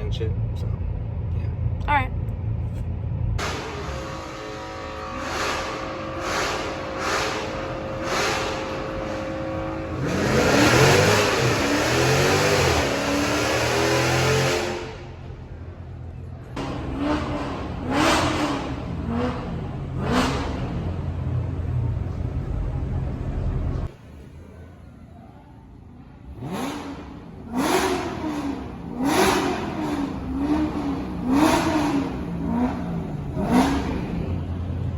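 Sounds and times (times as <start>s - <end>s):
car engine revving: 3.4s - 24.0s, 26.1s - 34.9s.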